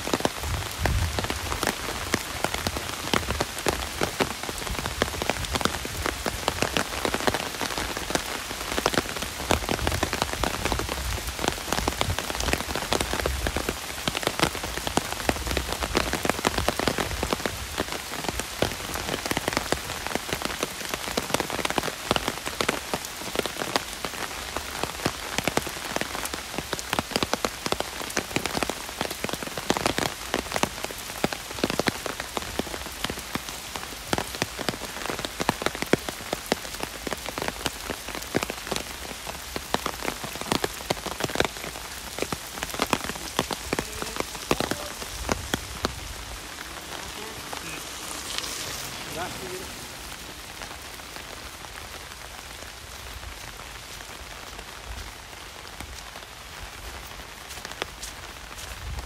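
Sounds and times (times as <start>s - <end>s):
heavy rain on an umbrella: 0.0s - 59.0s.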